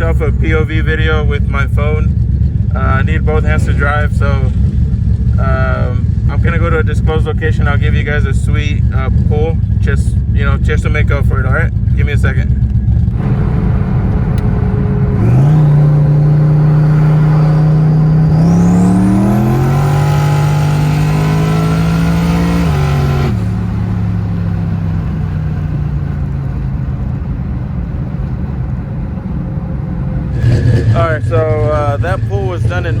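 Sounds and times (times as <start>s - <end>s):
car engine at full throttle: 0.0s - 33.0s
high turbo whine: 0.0s - 33.0s.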